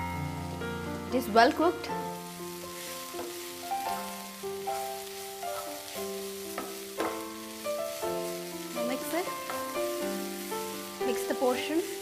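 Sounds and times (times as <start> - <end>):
curry sizzling in frying pan: 0.0 - 12.0
instrumental music: 0.0 - 12.0.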